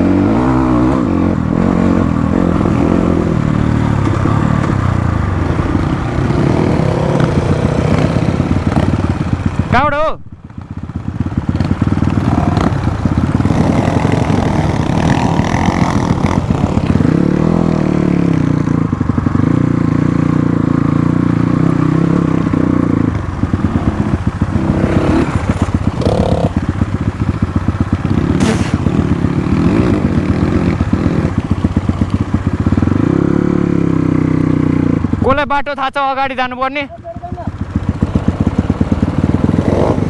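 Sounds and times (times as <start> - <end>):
motorcycle engine revving: 0.0 - 9.8, 10.4 - 35.4, 36.6 - 40.0.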